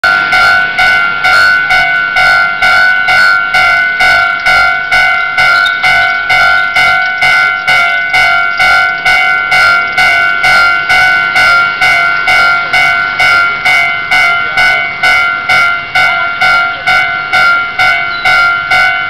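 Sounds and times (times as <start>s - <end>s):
level crossing warning bell ringing: 0.0s - 19.0s.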